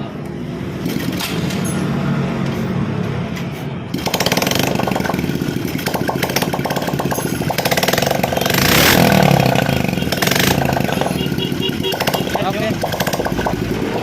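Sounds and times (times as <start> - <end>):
motorcycle engine idling and revving: 0.2 - 14.0.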